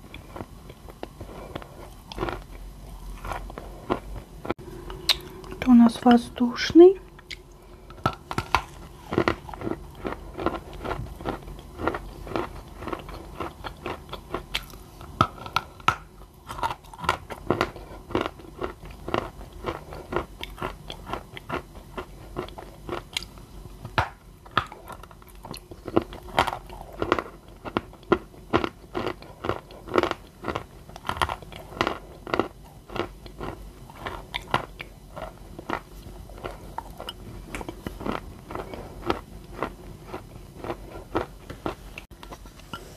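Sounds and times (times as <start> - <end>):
crunching chewing: 0.0 - 5.6, 7.1 - 42.9.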